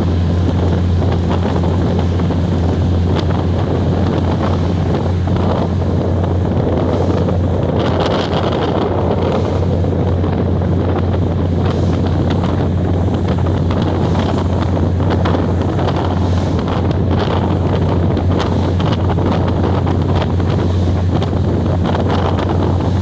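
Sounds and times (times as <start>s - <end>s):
train rumbling: 0.0s - 23.0s
wind buffeting microphone: 0.0s - 23.0s.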